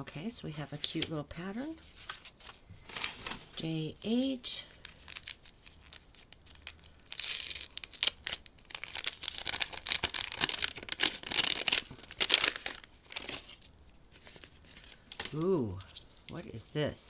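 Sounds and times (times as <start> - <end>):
packaging crinkling and tearing: 1.9 - 16.4.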